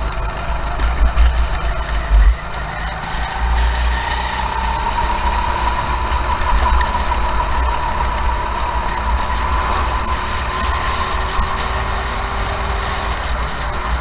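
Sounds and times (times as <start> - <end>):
kart engine running: 0.0 - 14.0.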